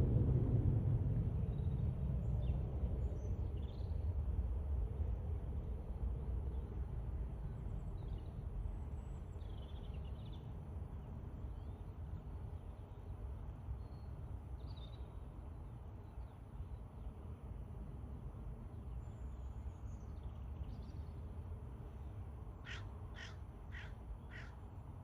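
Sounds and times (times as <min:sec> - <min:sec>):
steady low rumble: 0:00.0 - 0:24.2.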